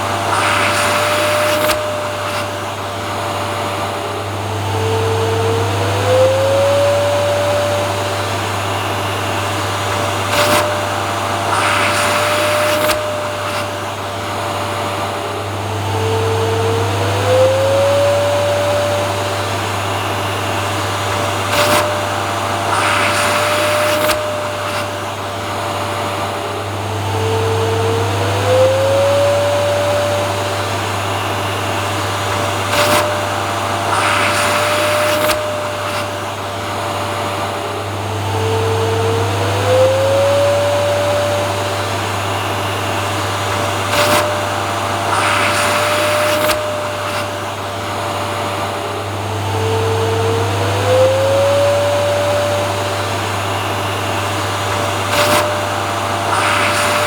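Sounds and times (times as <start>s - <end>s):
airflow hiss: 0.0s - 57.0s
vacuum cleaner running: 0.0s - 57.0s.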